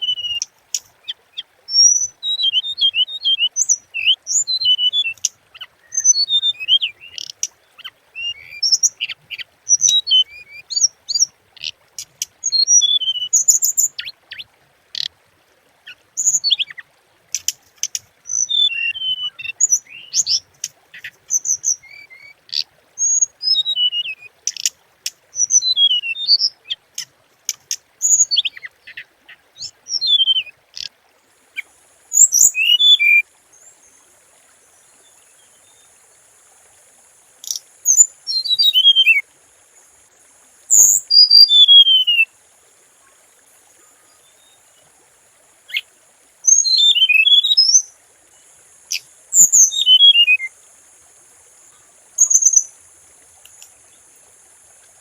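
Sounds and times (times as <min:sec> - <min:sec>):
songbird chirping and twittering: 0:00.0 - 0:15.2, 0:15.8 - 0:36.1, 0:37.4 - 0:42.3, 0:43.0 - 0:45.0, 0:45.6 - 0:50.6, 0:51.7 - 0:55.0.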